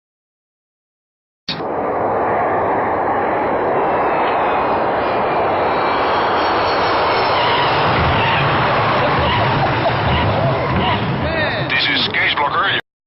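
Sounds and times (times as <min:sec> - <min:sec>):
aircraft engines running: 0:01.5 - 0:12.8
deep rumble: 0:01.5 - 0:12.8.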